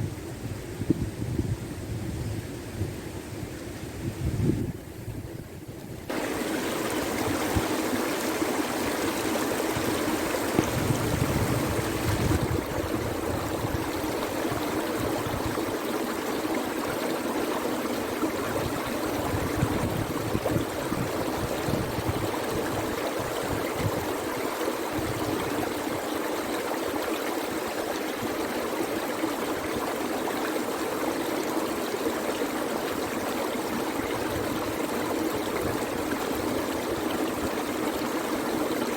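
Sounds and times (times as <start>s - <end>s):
river rushing in flood: 6.1s - 38.9s.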